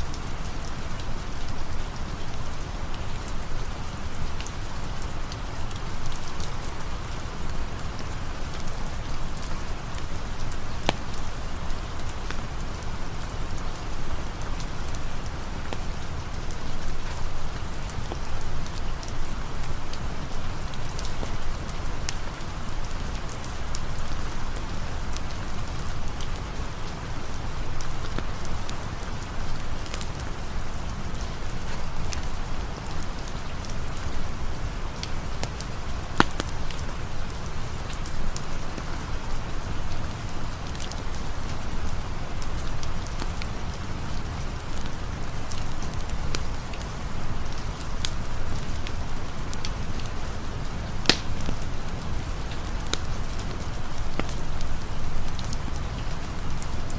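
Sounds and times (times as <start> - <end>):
crackling campfire: 0.0 - 56.9
steady rain falling: 0.0 - 56.9.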